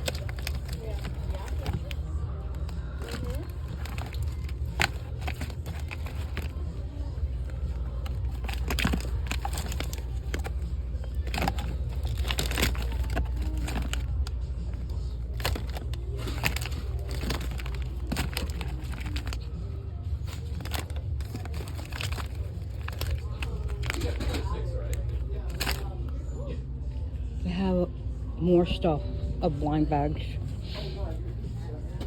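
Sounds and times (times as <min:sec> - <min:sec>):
packaging clicks and rustles: 0:00.0 - 0:26.2
faint background music or voices: 0:00.0 - 0:32.0.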